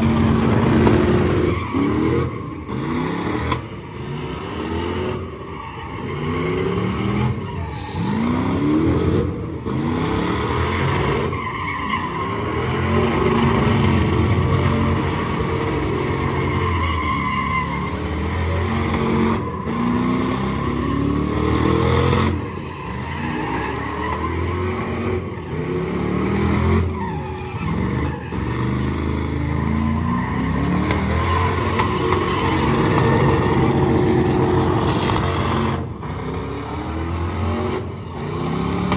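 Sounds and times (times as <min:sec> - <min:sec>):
truck engines revving: 0:00.0 - 0:38.9.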